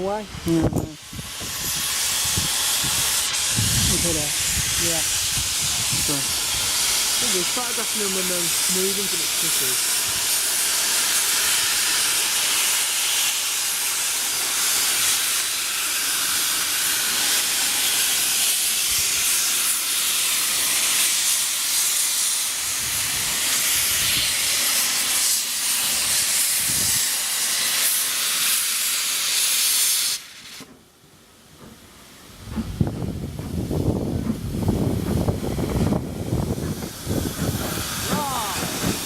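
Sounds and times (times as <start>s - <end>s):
steam locomotive hissing steam: 0.0s - 39.0s.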